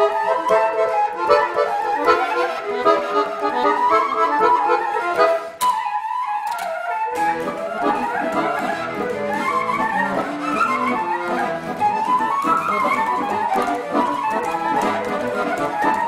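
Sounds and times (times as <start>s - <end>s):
accordion playing: 0.0s - 5.8s, 7.0s - 16.0s
flute playing folk tune: 0.0s - 16.0s.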